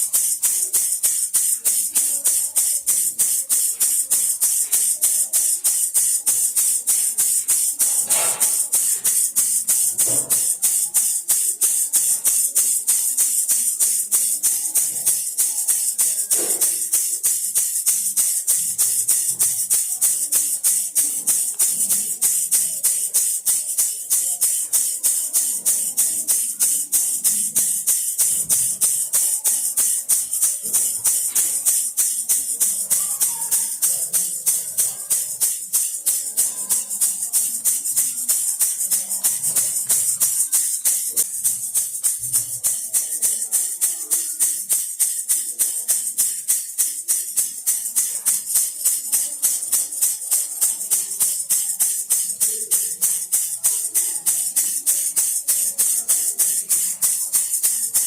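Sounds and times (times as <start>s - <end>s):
baby rattle shaking: 0.0s - 58.0s.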